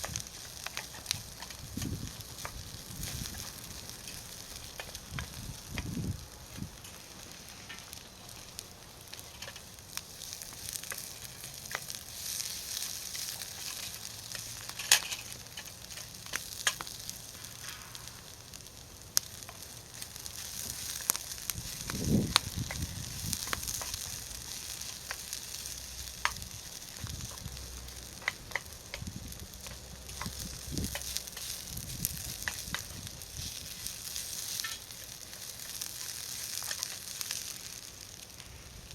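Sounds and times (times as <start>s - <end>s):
food sizzling in a skillet: 0.0s - 38.9s.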